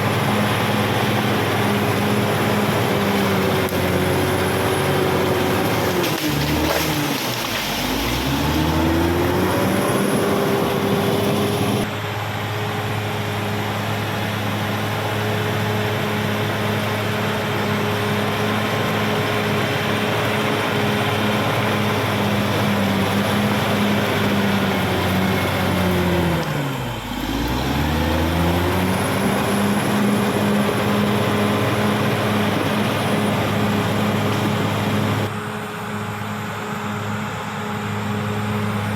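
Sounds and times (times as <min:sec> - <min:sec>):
bulldozer diesel engine revving: 0:00.0 - 0:11.9, 0:13.5 - 0:38.9.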